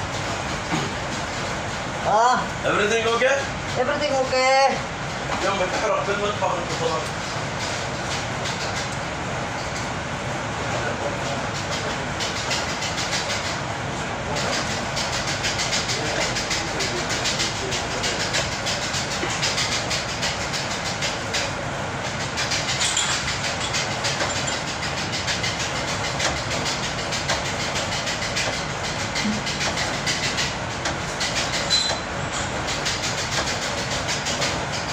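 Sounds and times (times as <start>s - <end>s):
machine rattling and hissing: 0.0s - 34.9s.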